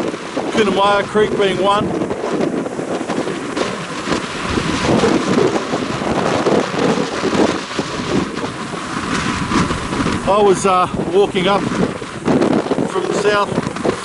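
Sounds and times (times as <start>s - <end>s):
water rushing roar: 0.0s - 14.0s
wind on microphone: 0.0s - 14.0s.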